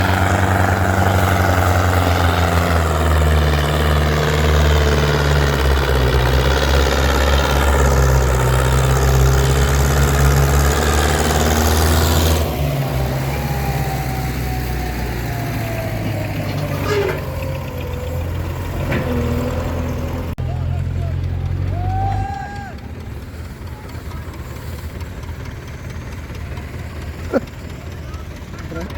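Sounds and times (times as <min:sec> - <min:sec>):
diesel engine drone: 0:00.0 - 0:28.9.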